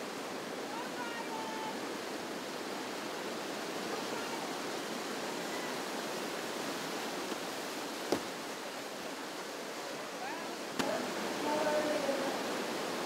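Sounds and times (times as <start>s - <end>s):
whitewater rapids rushing: 0.0s - 13.0s.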